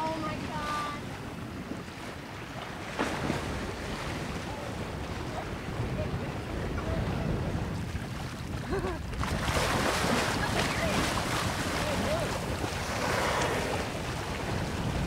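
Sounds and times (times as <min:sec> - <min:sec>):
choppy sea waves: 0:00.0 - 0:15.0
wind buffeting microphone: 0:00.0 - 0:15.0.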